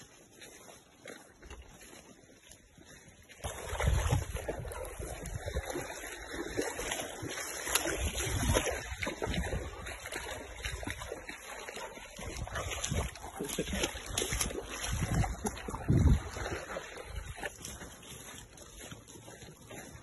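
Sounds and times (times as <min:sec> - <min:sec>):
bare feet splashing in water: 0:00.0 - 0:20.0.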